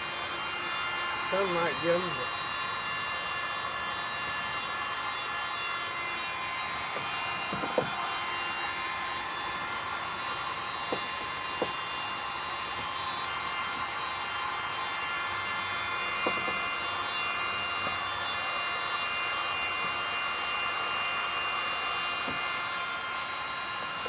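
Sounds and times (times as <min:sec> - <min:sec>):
heat gun fan whining and hissing: 0:00.0 - 0:24.0.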